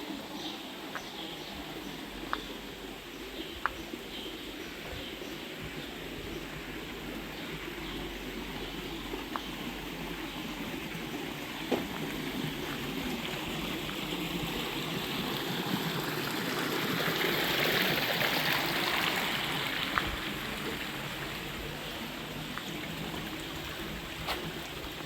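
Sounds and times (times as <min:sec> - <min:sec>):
flowing stream: 0:00.0 - 0:25.0.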